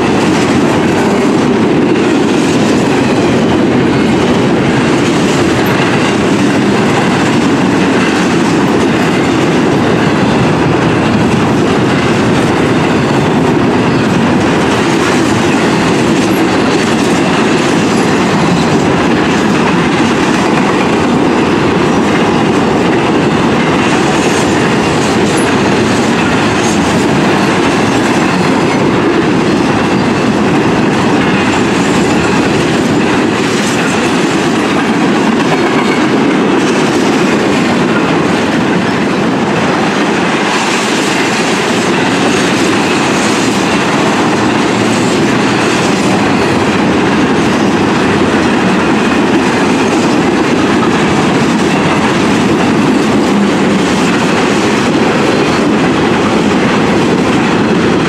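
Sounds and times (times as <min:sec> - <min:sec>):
train cars rolling on track: 0:00.0 - 0:58.0.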